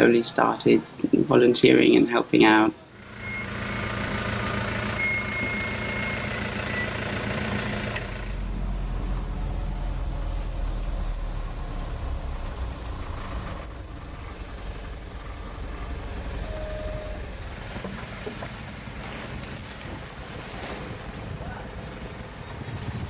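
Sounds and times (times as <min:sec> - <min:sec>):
truck engine running: 0:02.8 - 0:23.0.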